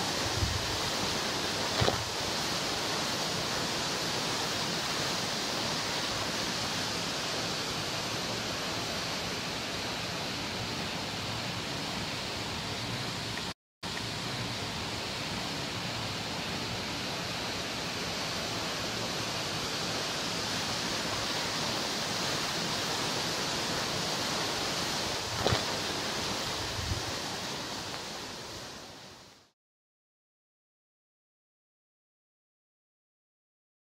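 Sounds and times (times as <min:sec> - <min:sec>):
waterfall rushing: 0:00.0 - 0:29.4.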